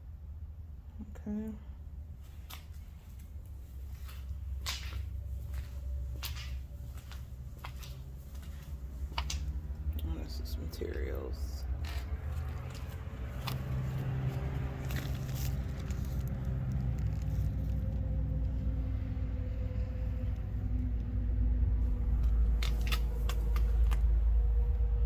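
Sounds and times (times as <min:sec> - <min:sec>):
vehicle engine rumble: 0:00.3 - 0:25.0.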